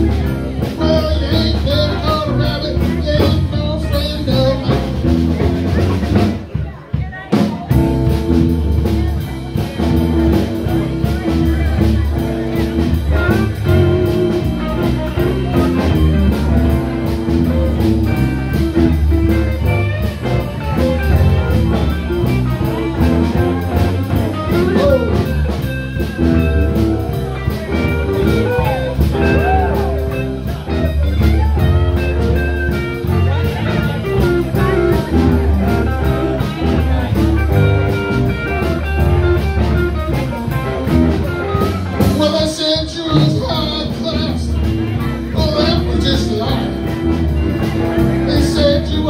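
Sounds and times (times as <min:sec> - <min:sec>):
bass: 0:00.0 - 0:49.0
drum kit beat: 0:00.0 - 0:49.0
electric guitars: 0:00.0 - 0:49.0.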